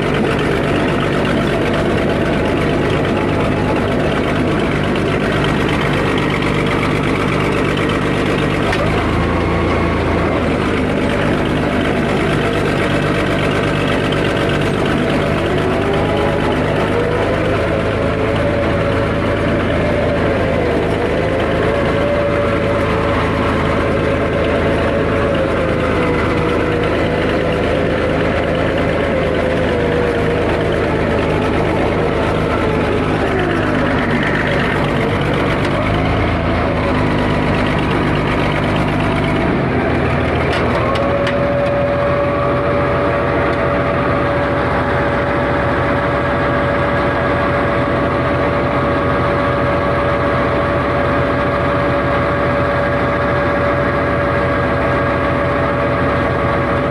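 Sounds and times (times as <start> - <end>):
diesel engine running: 0.0 - 56.9
engine whine: 0.0 - 56.9.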